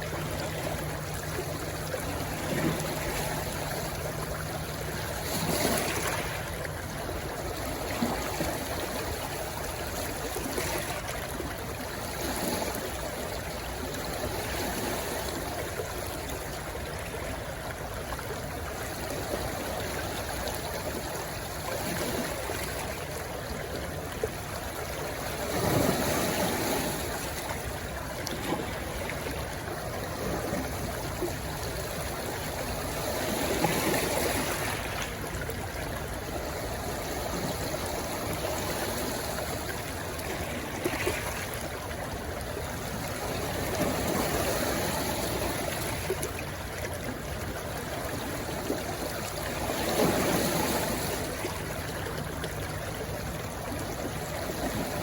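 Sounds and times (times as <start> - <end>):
rushing stream: 0.0 - 55.0.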